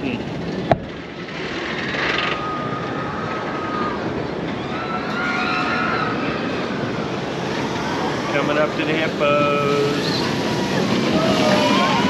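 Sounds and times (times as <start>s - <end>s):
outdoor rumble: 0.0s - 12.0s.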